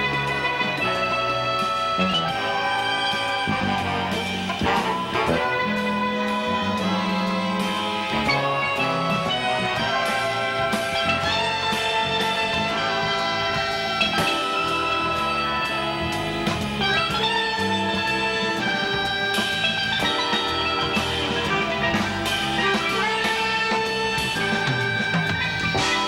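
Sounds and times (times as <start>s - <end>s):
drums: 0.0s - 26.0s
electric bass: 0.0s - 26.0s
harmonica melody: 0.0s - 26.0s.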